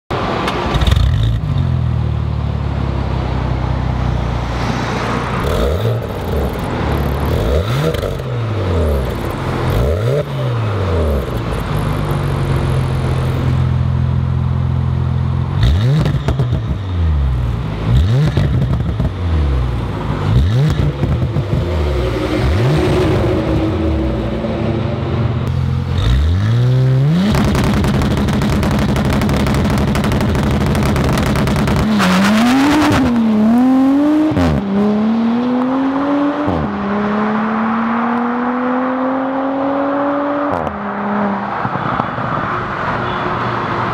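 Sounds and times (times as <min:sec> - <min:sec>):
car engine revving: 0:04.3 - 0:14.4, 0:15.4 - 0:43.0.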